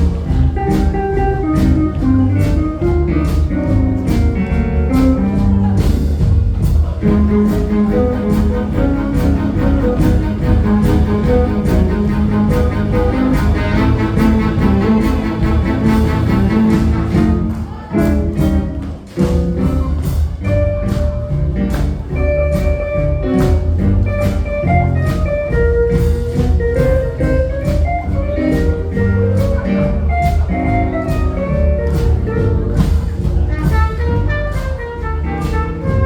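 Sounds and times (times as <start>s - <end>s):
jazz band playing: 0.0s - 36.0s.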